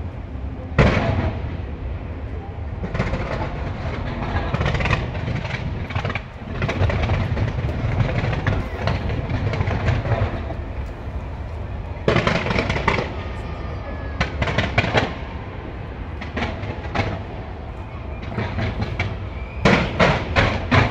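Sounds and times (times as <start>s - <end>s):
fireworks bangs and crackles: 0.8s - 1.8s, 2.7s - 20.9s.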